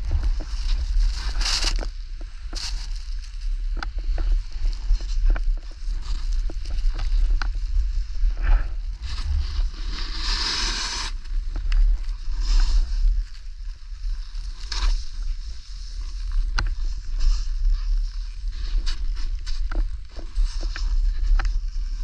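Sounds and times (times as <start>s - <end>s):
skis scraping over snow: 0.0s - 22.0s.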